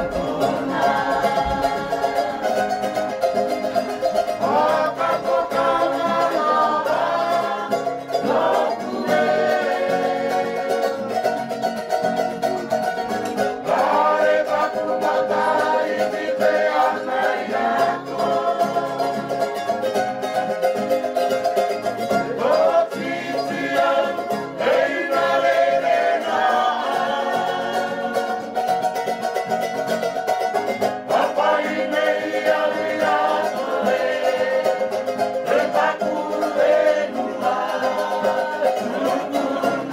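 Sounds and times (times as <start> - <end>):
song with plucked strings: 0.0 - 39.9.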